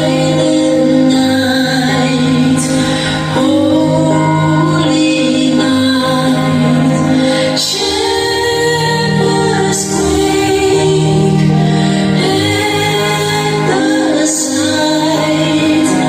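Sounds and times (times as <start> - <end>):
song with female vocals: 0.0 - 16.0.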